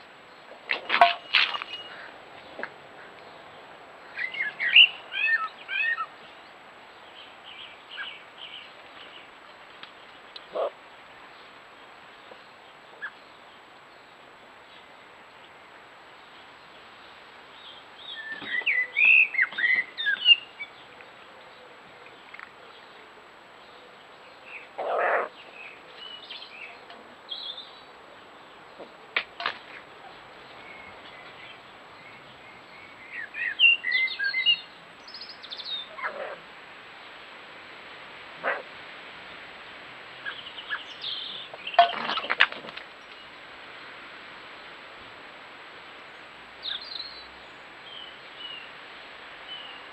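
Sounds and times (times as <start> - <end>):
birds chirping and twittering: 0.0 - 36.4, 39.6 - 43.5, 46.0 - 49.9
faint steady hiss: 0.0 - 49.9.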